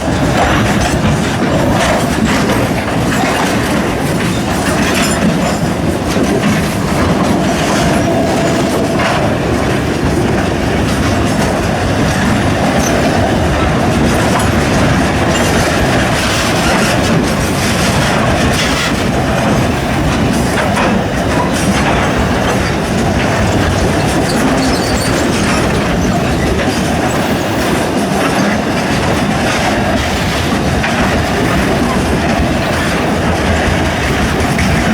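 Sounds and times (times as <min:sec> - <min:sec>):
freight train rumbling: 0:00.0 - 0:34.9
wheels clacking over rail joints: 0:00.0 - 0:34.9.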